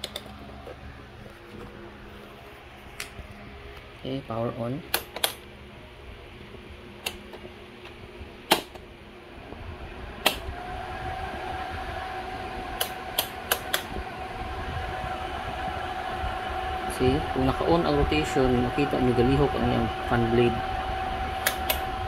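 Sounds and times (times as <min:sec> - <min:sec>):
cooler fan whirring: 0:00.0 - 0:22.0.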